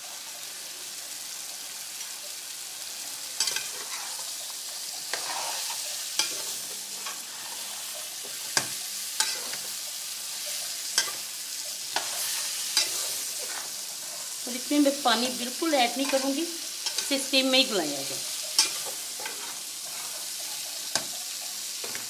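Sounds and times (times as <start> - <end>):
vegetables sizzling in pot: 0.0 - 22.0.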